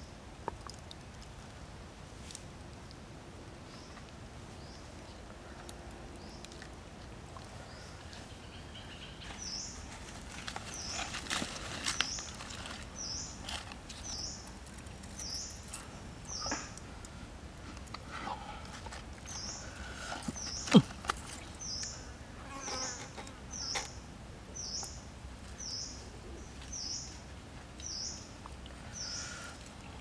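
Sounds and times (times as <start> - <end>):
outdoor ambience: 0.0 - 30.0.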